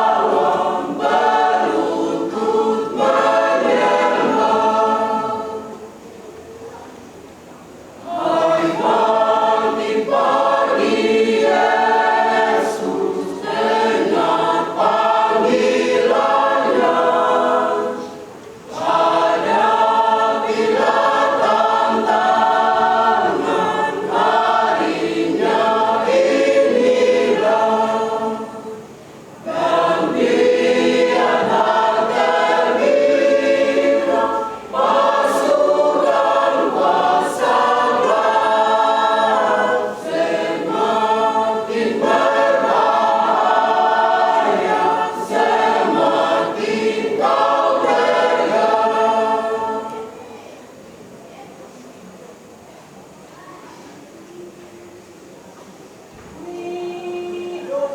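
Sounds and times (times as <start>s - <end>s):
choir singing: 0.0s - 6.0s, 8.0s - 50.5s, 56.4s - 57.9s.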